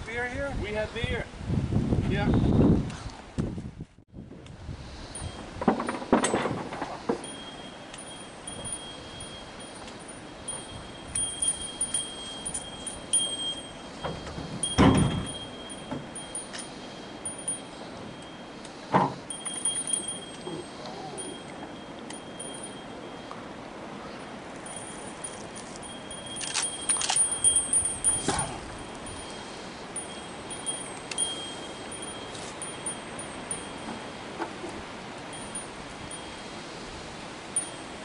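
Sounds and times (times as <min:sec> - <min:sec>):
faint high metallic tinkling: 0:05.0 - 0:34.7, 0:35.3 - 0:38.0.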